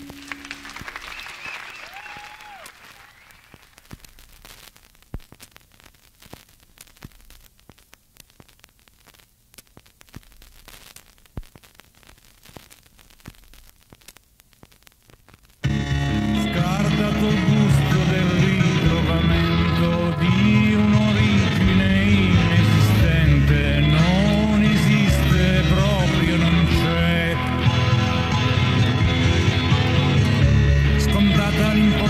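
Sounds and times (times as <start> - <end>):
cassette tape hiss: 0.0 - 32.0.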